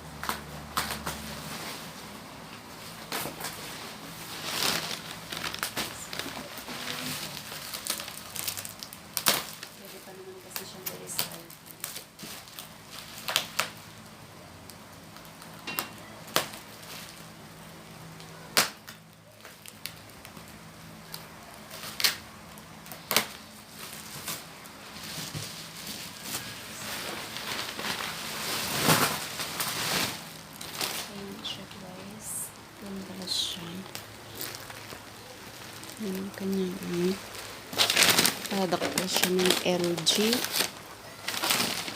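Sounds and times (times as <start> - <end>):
packaging rustling and crinkling: 0.1 - 41.9.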